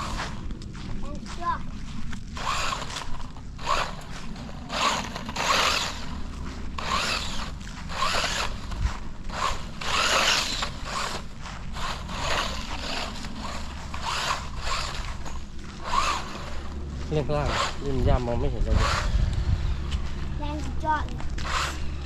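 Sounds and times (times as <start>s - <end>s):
electric toy car motor whirring: 0.0s - 0.4s, 2.3s - 19.9s, 20.8s - 22.0s.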